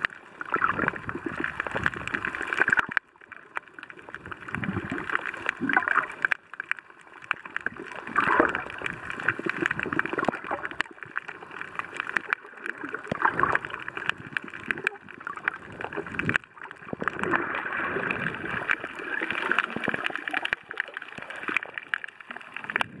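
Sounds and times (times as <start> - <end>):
underwater bubbling and gurgling: 0.0 - 23.0.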